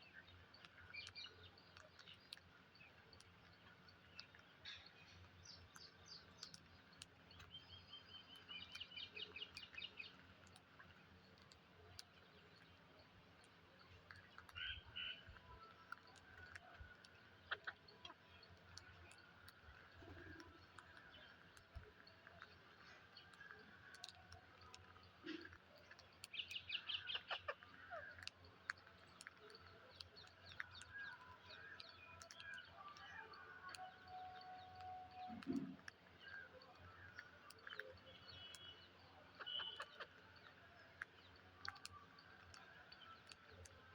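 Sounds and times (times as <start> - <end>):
soft clicks: 0.3 - 43.9.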